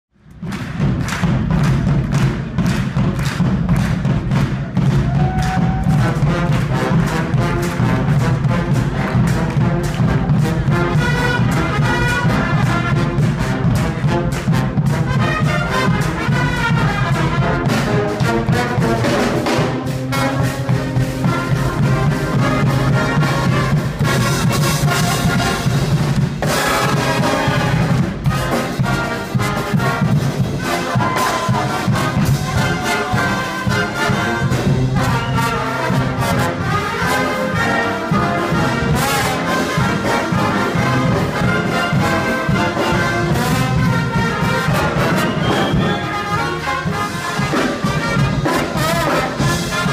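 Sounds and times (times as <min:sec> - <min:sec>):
bass drum and snare drum beat: 0:00.1 - 0:49.9
brass band playing: 0:00.1 - 0:49.9.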